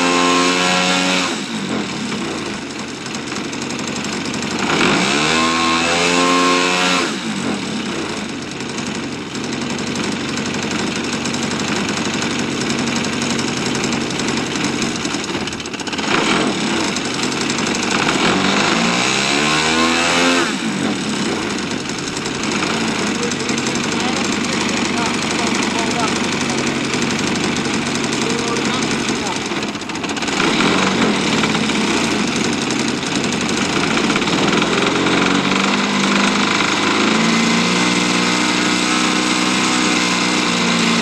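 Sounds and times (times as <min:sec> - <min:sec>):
model plane engine revving: 0:00.0 - 0:41.0.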